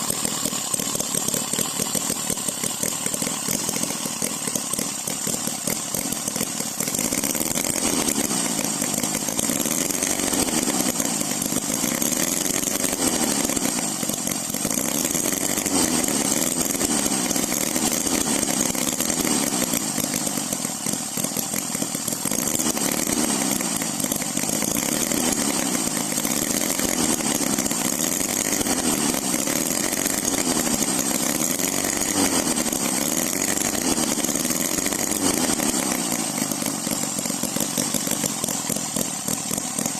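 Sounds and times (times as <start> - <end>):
model engine running: 0.0 - 39.9.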